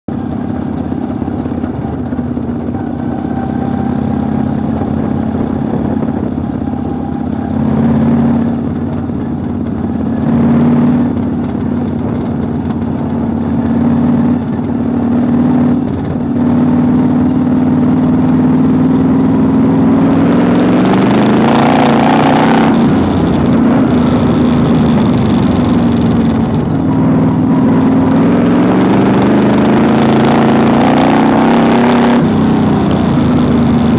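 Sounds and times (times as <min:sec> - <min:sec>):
race car engine revving: 0:00.3 - 0:33.9.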